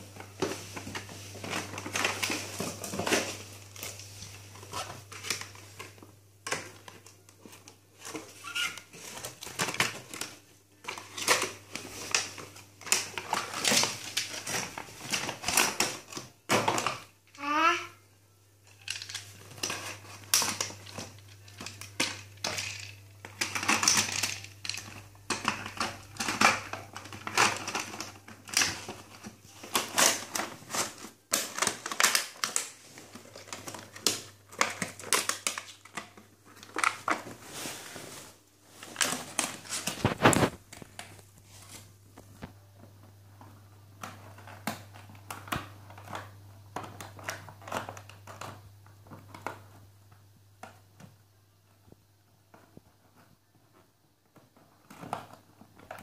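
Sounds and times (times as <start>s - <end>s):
cardboard and plastic crinkling: 0.0s - 17.8s, 18.6s - 56.0s.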